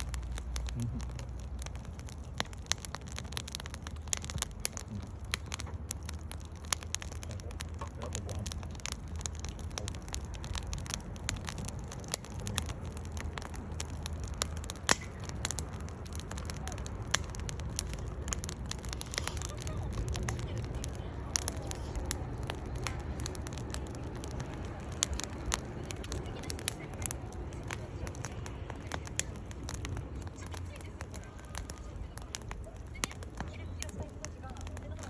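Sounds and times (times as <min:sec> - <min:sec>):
firewood crackling and popping: 0:00.0 - 0:35.0
low fire rumble: 0:00.0 - 0:35.0.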